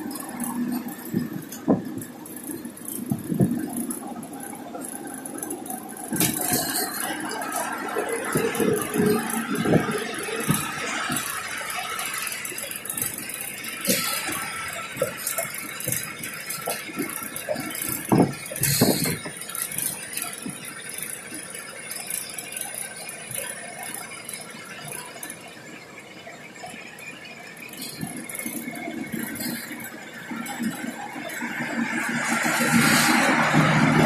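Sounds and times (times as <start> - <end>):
bus fittings rattling: 0.0 - 34.0
road and engine hum: 0.0 - 34.0.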